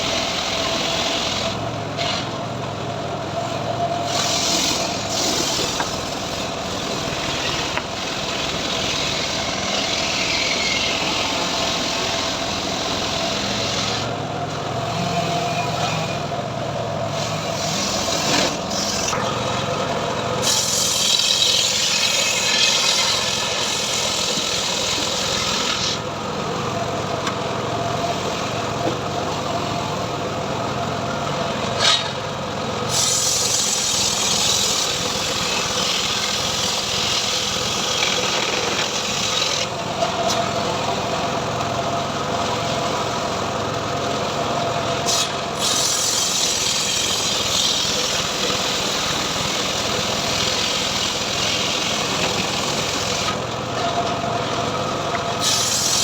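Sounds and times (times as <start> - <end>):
sawmill blade sawing wood: 0.0 - 2.5, 3.2 - 26.8, 31.4 - 56.0.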